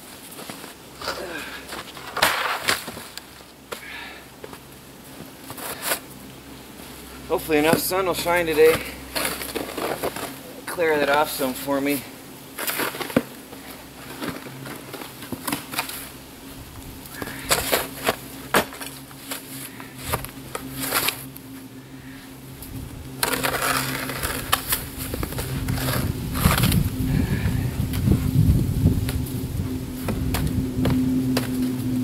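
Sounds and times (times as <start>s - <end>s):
snow shovel crunching snow: 0.0s - 28.2s
faint low hum: 0.0s - 32.0s.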